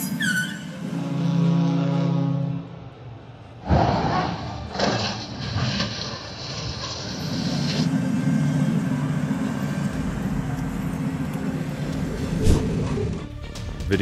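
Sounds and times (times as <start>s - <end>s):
freight train rumbling: 0.0s - 3.6s, 5.3s - 14.0s.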